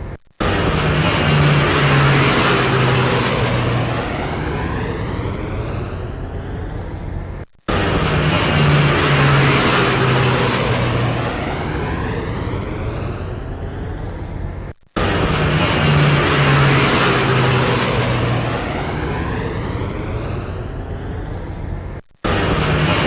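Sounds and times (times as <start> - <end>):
jet airplane roar: 0.0 - 23.0.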